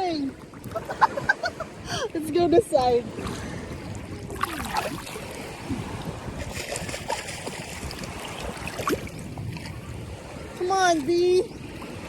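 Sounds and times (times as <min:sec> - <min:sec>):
seawater sloshing and splashing: 0:00.0 - 0:12.0.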